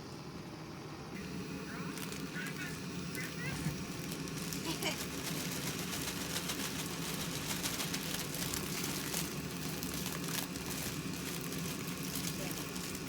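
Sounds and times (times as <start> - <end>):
camp stove humming and hissing: 0.0 - 13.0
food crackling: 1.2 - 13.0.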